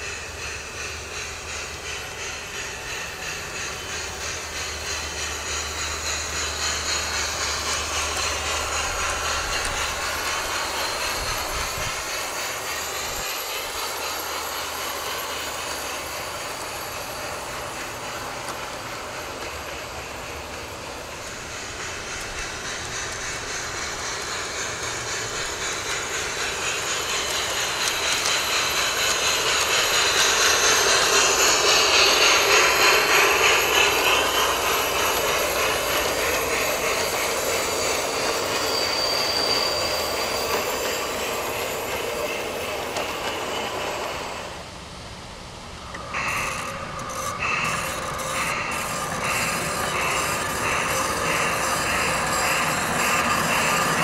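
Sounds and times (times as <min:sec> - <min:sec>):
model train wheels rolling on rails: 0:00.0 - 0:54.0.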